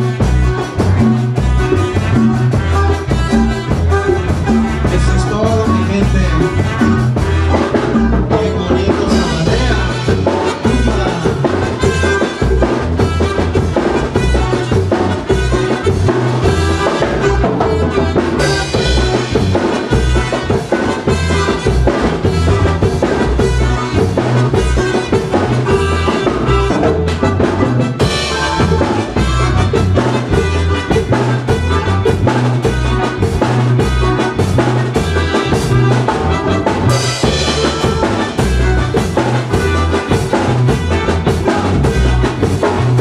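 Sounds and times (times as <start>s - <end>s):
bass drum beat: 0.0s - 43.0s
brass band playing: 0.0s - 43.0s
trumpets: 0.0s - 43.0s.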